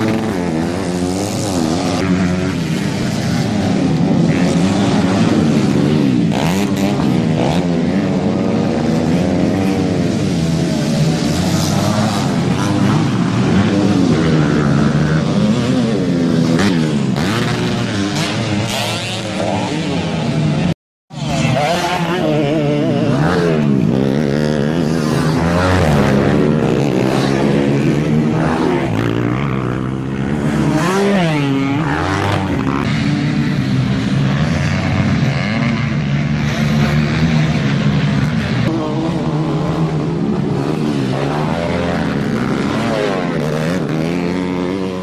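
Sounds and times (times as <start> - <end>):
racing motorcycles revving: 0.0 - 45.0.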